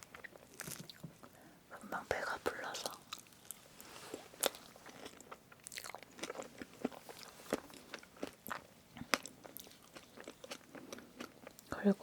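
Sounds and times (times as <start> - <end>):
close chewing with mouth clicks: 0.0 - 1.4, 2.8 - 11.8.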